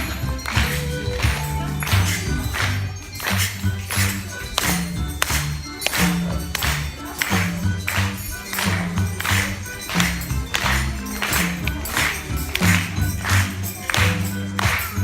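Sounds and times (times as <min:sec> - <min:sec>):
bass line music: 0:00.0 - 0:15.0
tambourine jingling: 0:00.0 - 0:15.0.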